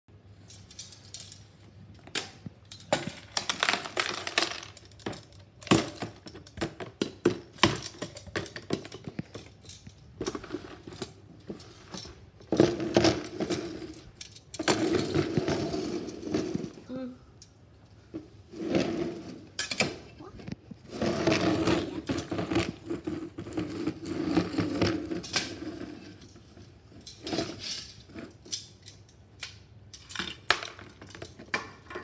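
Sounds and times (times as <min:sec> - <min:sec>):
plastic toys clattering: 0:00.2 - 0:32.0.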